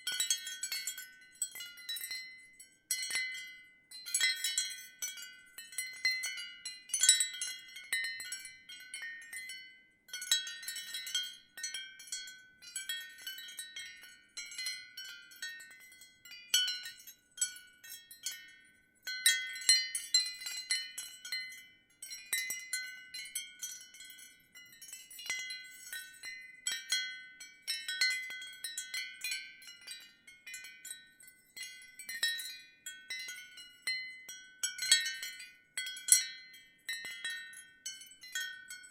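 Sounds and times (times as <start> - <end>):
ceramic wind chimes tinkling: 0.0 - 38.9.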